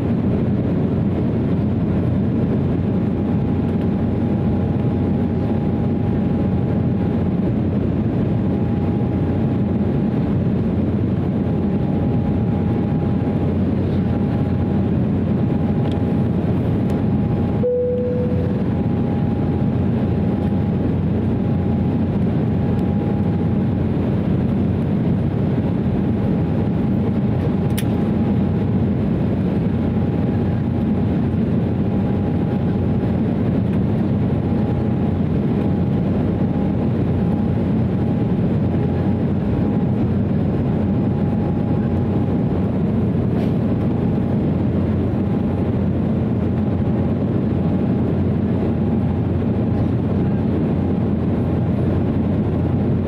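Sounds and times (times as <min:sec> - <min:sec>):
airliner cabin engine drone: 0:00.0 - 0:53.0
faint steady whine: 0:00.0 - 0:53.0.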